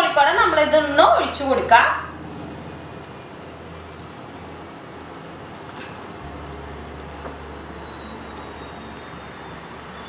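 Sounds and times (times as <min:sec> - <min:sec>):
faint high-pitched whine: 0:00.0 - 0:10.0
low hum: 0:00.3 - 0:10.0.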